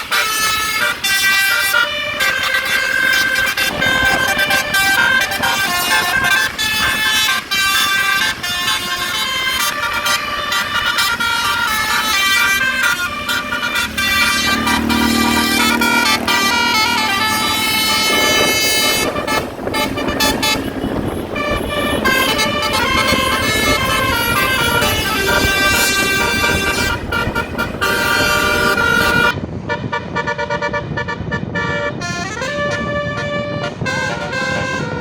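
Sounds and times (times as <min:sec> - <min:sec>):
musical air horn playing a tune: 0:00.0 - 0:35.0.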